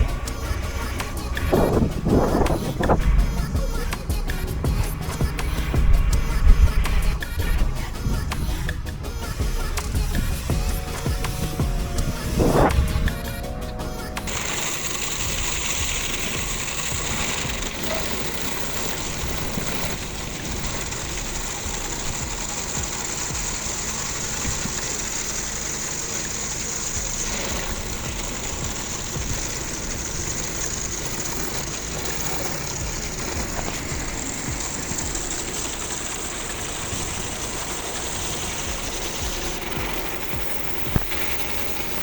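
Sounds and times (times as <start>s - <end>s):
pressure washer pump running: 0.0s - 42.0s
water jet hissing: 0.0s - 42.0s.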